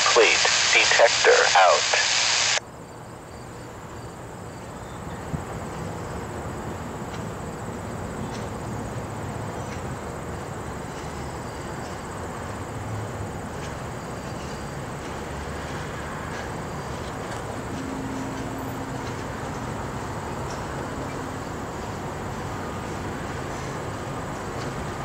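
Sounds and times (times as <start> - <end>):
diesel locomotive low rumble: 3.1 - 25.0.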